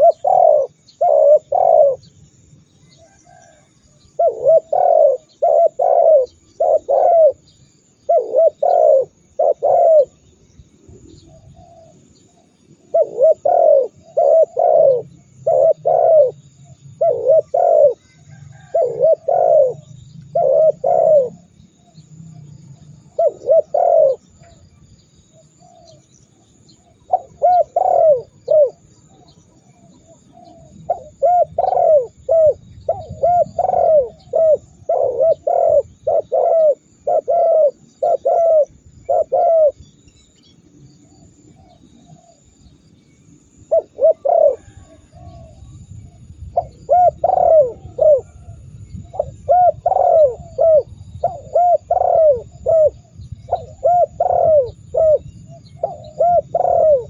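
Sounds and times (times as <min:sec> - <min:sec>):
dove cooing: 0:00.0 - 0:02.2, 0:02.9 - 0:10.2, 0:10.8 - 0:24.6, 0:25.4 - 0:39.9, 0:41.0 - 0:42.6, 0:43.6 - 0:57.0.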